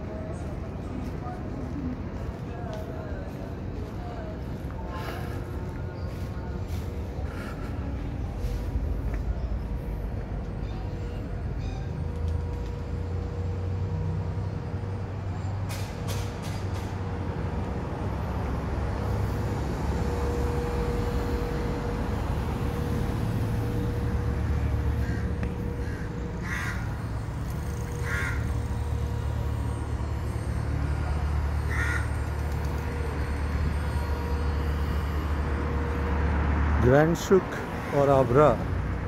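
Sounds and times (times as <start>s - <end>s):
low outdoor rumble: 0.0s - 39.0s.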